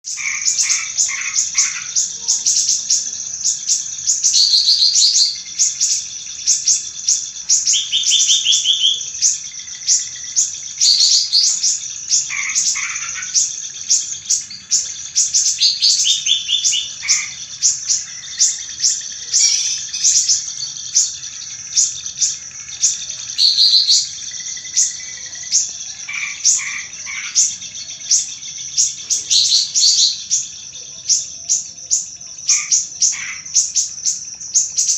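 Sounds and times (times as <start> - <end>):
birds chirping and trilling: 0.0 - 34.9.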